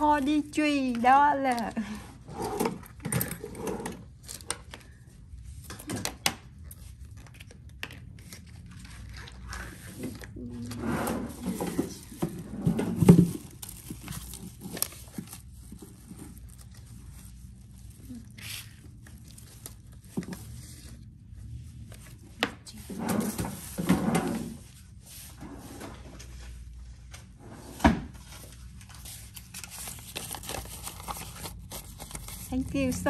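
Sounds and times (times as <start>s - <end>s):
crinkling and rustling handling: 0.0s - 27.4s, 28.1s - 33.0s.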